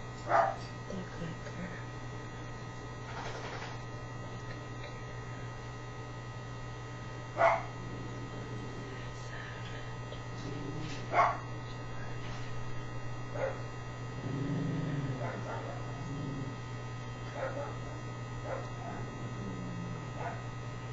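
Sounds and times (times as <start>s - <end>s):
steady electrical hum: 0.0s - 20.9s.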